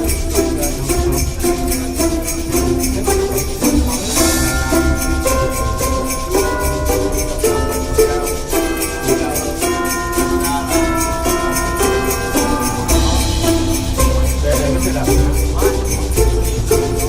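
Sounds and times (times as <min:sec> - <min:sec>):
background music with beat: 0:00.0 - 0:17.0
jingling tambourine percussion: 0:00.0 - 0:17.0.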